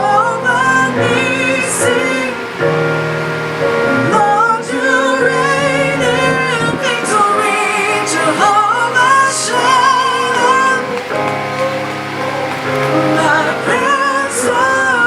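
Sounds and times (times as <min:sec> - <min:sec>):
person singing with vibrato: 0:00.0 - 0:15.0
sustained musical accompaniment: 0:00.0 - 0:15.0.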